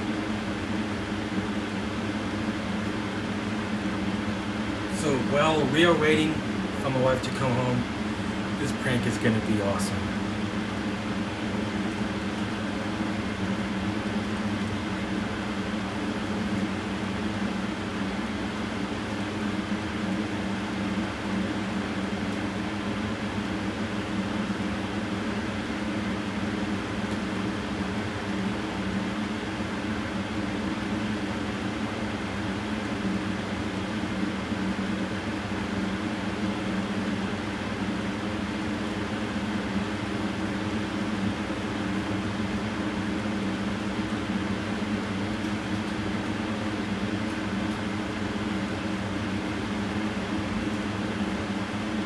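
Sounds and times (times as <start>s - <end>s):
machine hum with hiss: 0.0s - 52.0s.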